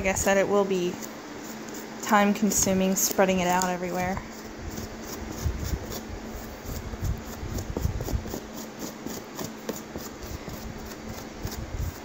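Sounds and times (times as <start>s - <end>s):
fan hum: 0.0s - 12.0s
sponge brush scrubbing plastic: 0.0s - 12.0s.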